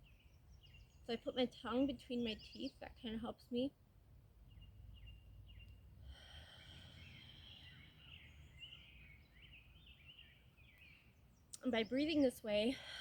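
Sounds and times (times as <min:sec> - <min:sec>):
birds chirping: 0:00.0 - 0:03.3, 0:04.5 - 0:13.0.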